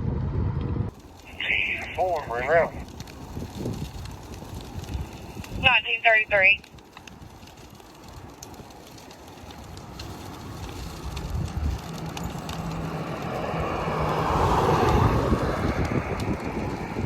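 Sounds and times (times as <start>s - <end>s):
vehicle engine and tyre noise: 0.0s - 17.0s.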